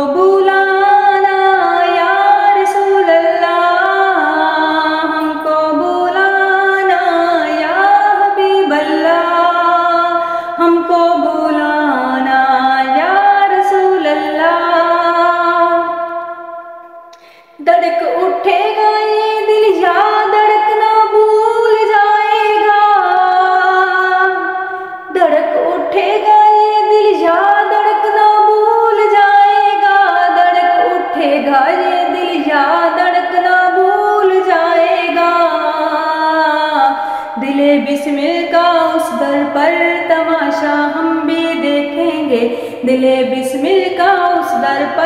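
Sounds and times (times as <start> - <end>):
woman singing unaccompanied: 0.0 - 16.8, 17.6 - 45.0.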